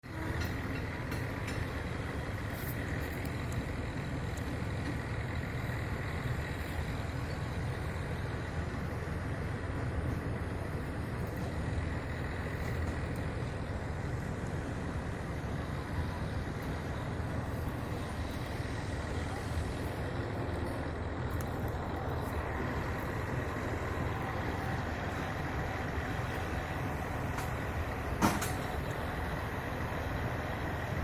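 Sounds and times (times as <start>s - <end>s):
low rumbling noise: 0.0s - 31.0s.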